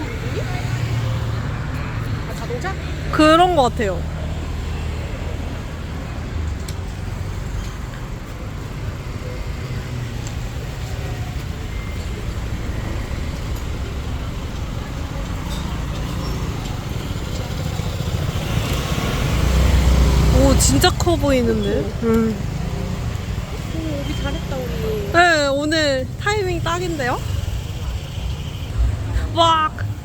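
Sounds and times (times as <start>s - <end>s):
road noise: 0.0s - 30.0s
vehicle engine rumble: 0.0s - 30.0s.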